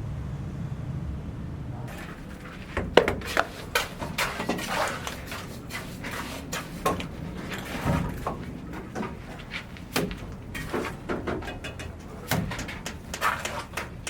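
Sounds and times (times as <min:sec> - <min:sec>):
hard objects knocking: 0:01.9 - 0:14.0
scraping: 0:01.9 - 0:14.0.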